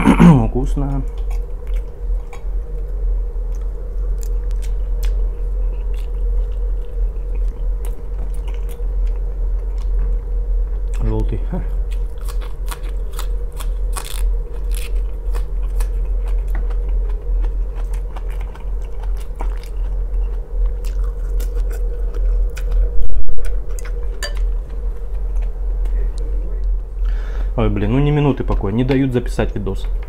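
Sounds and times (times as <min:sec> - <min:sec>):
steady low hum: 0:00.0 - 0:30.0
man chewing food: 0:01.0 - 0:11.1, 0:11.7 - 0:27.5.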